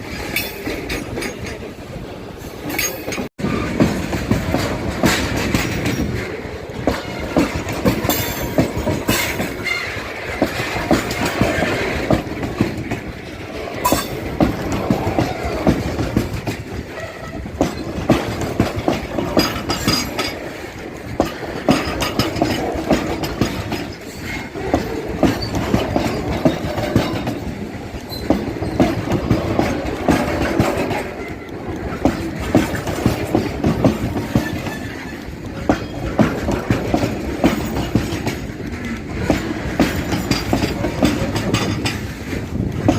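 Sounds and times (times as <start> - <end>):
wheel clacks over rail joints: 0.0 - 1.8, 2.5 - 42.9
train rumble: 0.0 - 42.9.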